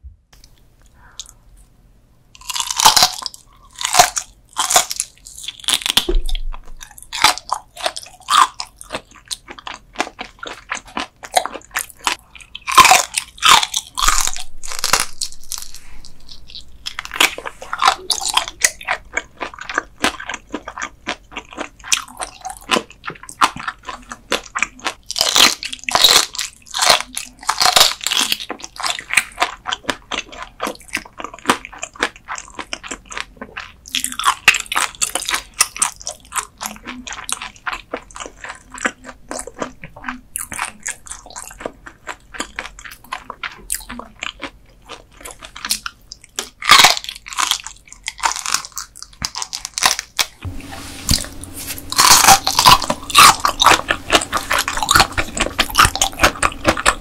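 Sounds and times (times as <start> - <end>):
crunching and chewing fish: 2.4 - 57.0.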